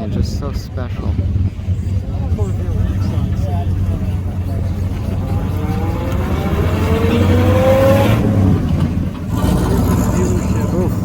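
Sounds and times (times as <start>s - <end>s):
car engine accelerating: 0.0s - 11.0s
low rumble of vehicles: 0.0s - 11.0s.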